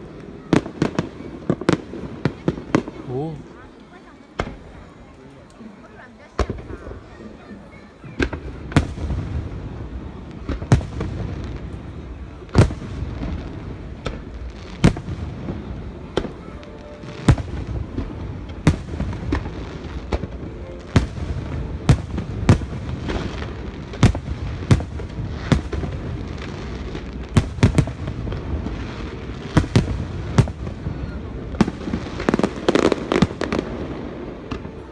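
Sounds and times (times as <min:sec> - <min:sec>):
low rumble of fireworks display: 0:00.0 - 0:34.9.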